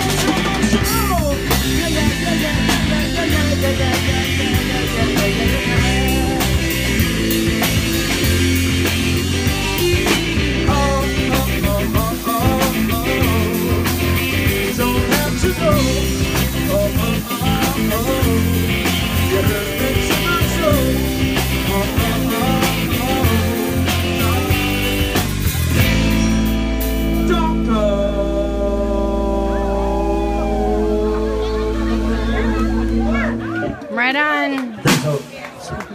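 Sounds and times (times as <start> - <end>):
drum kit: 0.0 - 29.2, 30.0 - 35.8
guitar lead line bending: 0.0 - 33.9
rock band playing: 0.0 - 35.8.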